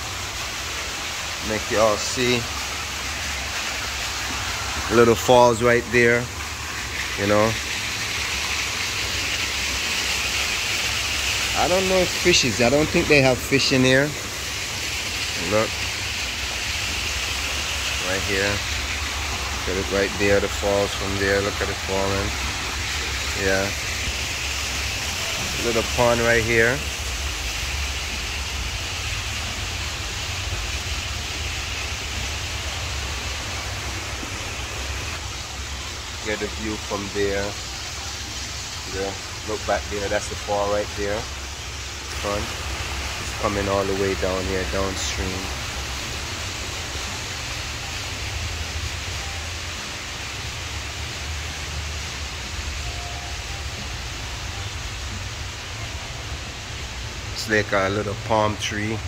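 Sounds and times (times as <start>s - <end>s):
artificial waterfall splashing into pond: 0.0s - 59.0s.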